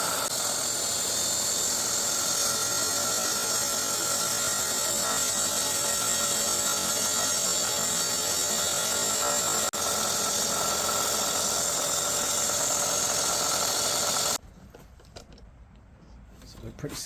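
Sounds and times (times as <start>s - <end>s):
power tool motor whine: 0.0s - 14.4s.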